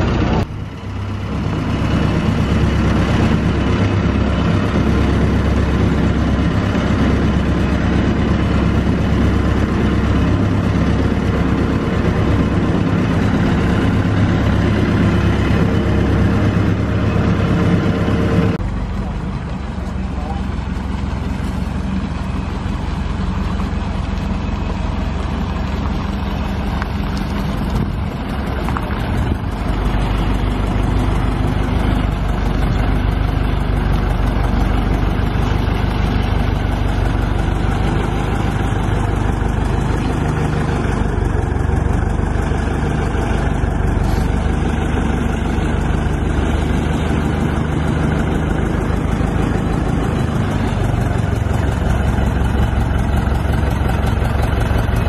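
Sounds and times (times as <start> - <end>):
crane engine running: 0.0 - 55.0.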